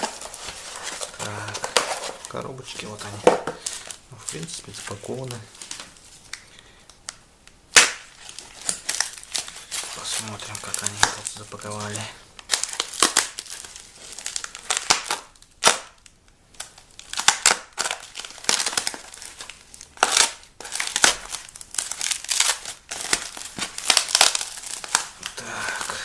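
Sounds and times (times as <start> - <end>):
packaging crinkling and tearing: 0.0 - 26.0.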